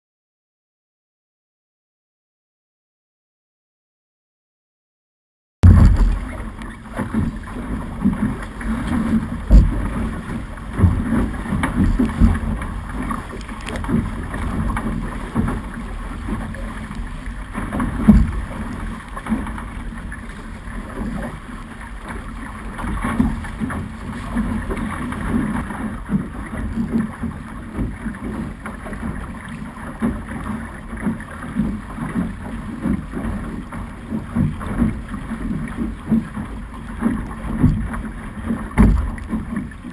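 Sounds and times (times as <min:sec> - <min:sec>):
water rushing and slapping hull: 0:05.6 - 0:39.9.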